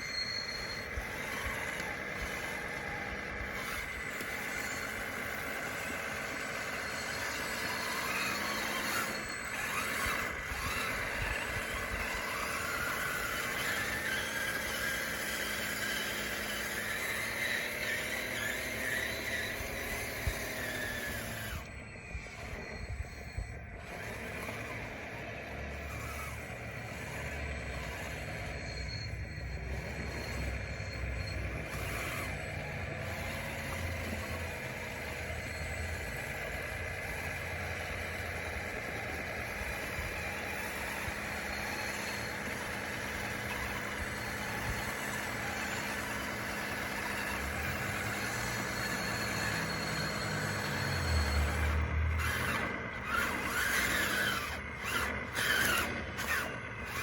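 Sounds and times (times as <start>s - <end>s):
toy bulldozer motors whining: 0.0s - 57.0s.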